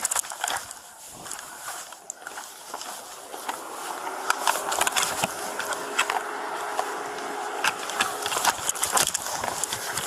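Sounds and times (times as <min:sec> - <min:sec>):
footsteps moving off quickly: 0:00.0 - 0:10.0
rustling: 0:00.0 - 0:10.0.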